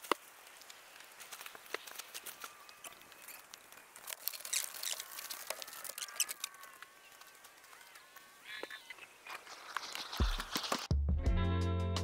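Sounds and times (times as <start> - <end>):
tarp rustling and crinkling: 0.0 - 10.9.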